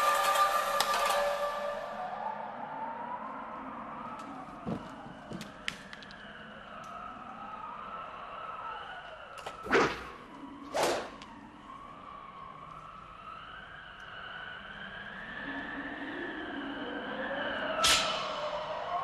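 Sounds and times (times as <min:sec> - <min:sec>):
wailing siren: 0:00.0 - 0:19.0.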